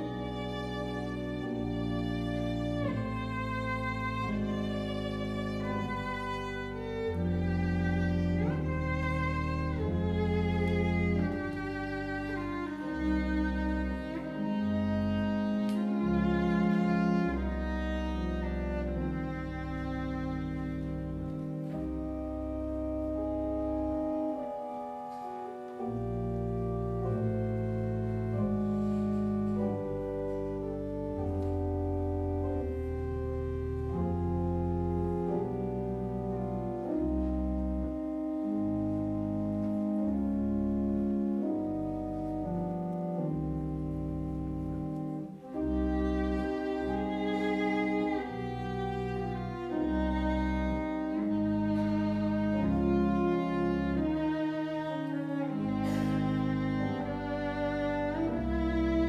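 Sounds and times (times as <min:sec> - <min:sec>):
church organ chords: 0:00.0 - 0:59.0
violin: 0:00.0 - 0:59.0.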